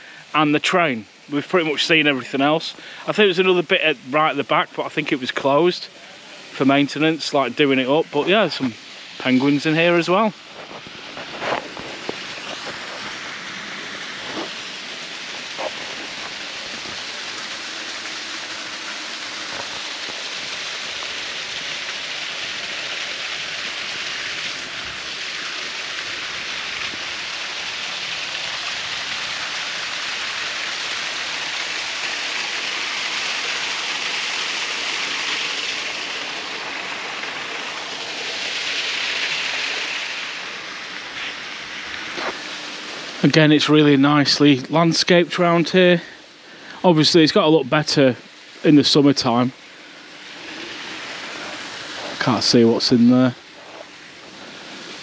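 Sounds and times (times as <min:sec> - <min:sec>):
waterfall rushing into pool: 0:00.0 - 0:55.0.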